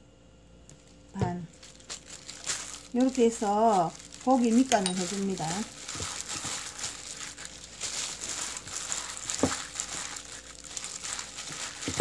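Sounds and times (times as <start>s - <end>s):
plastic glove crinkling: 0.8s - 12.0s.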